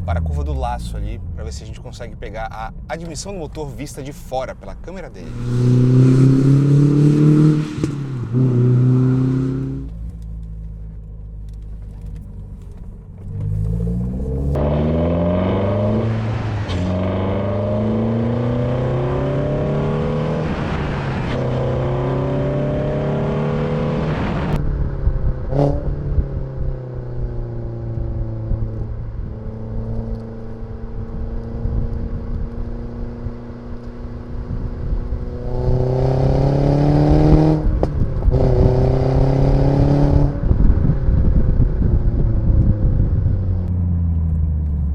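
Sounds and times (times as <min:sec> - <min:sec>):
car engine accelerating hard: 0:05.2 - 0:10.2, 0:11.5 - 0:44.9.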